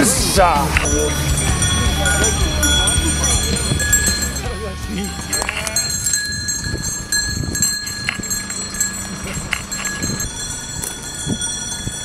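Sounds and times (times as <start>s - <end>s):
sheep bells clinking: 0.0s - 12.0s.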